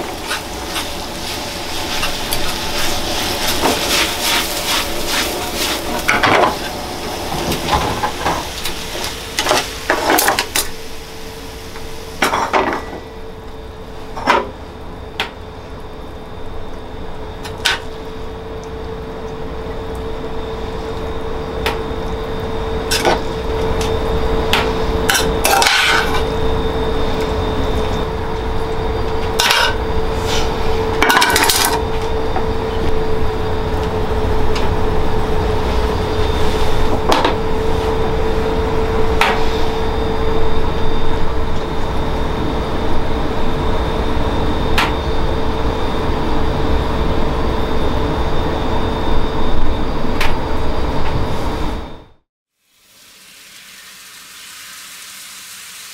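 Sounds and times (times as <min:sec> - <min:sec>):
kitchen roar with hum: 0:00.0 - 0:55.9.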